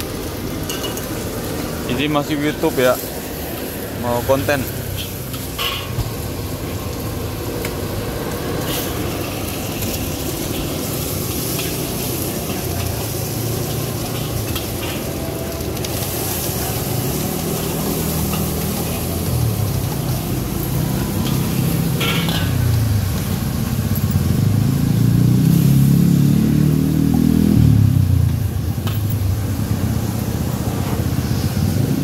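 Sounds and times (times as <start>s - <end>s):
food sizzling in a wok: 0.0s - 32.0s.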